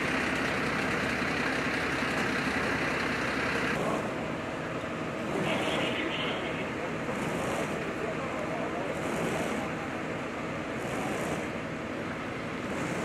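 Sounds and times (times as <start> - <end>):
dull engine hum: 0.0 - 13.0
fire engine idling: 0.0 - 13.0.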